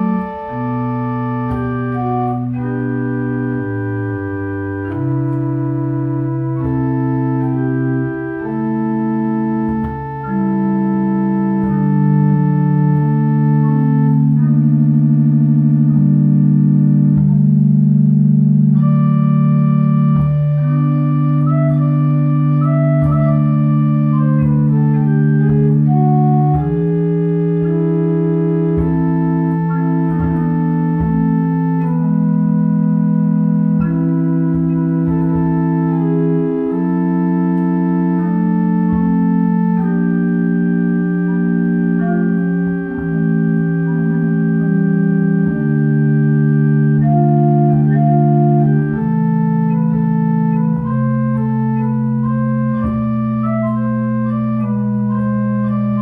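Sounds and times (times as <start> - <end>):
pipe organ sustained chords: 0.0 - 56.0.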